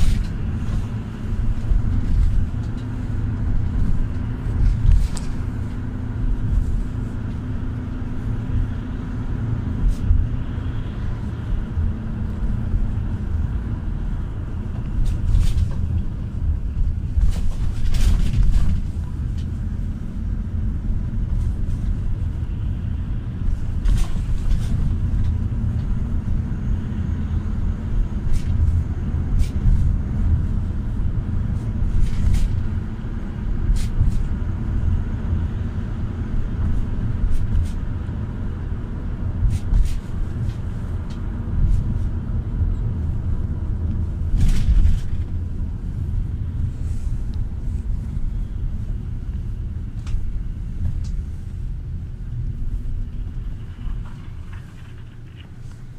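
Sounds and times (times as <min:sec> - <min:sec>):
body clicks and rattles: 0:00.0 - 0:08.7, 0:09.4 - 0:22.6, 0:23.3 - 0:26.8, 0:27.6 - 0:34.6, 0:39.0 - 0:55.9
engine and tyre rumble: 0:00.0 - 0:55.9.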